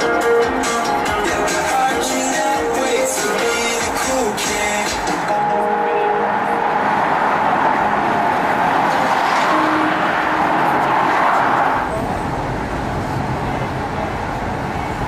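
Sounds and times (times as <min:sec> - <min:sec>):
low road rumble: 0:00.0 - 0:15.0.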